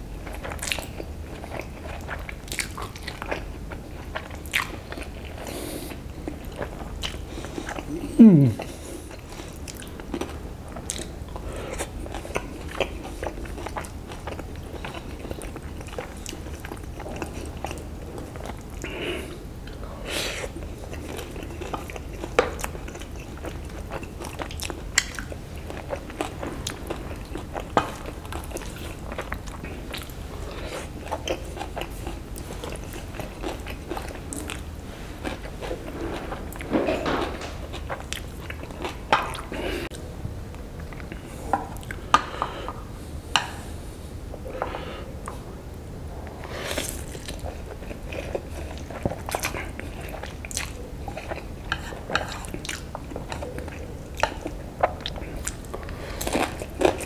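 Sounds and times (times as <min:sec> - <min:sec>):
low steady hum: 0:00.0 - 0:57.0
chewing noodles: 0:00.2 - 0:19.8, 0:20.4 - 0:40.0, 0:46.5 - 0:57.0.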